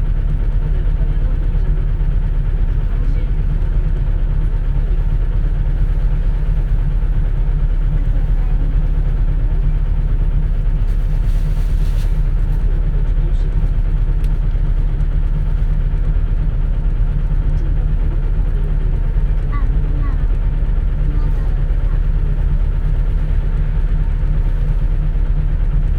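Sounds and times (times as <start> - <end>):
bus engine droning: 0.0 - 25.9.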